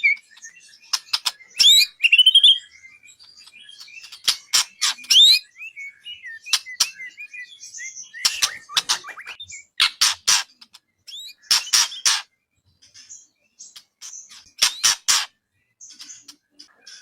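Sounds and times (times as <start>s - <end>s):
bird song harsh rasping notes: 0.0s - 17.0s.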